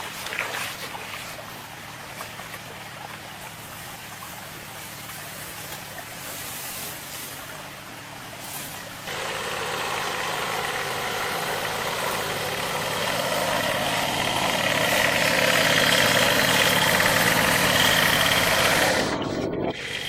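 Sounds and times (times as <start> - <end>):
machine running steadily: 1.6 - 20.0.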